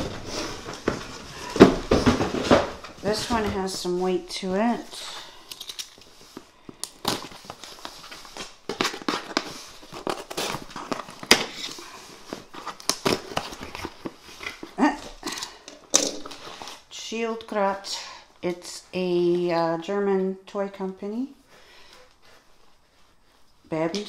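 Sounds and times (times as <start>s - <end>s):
wrapping crinkling and rustling: 0.0s - 19.9s.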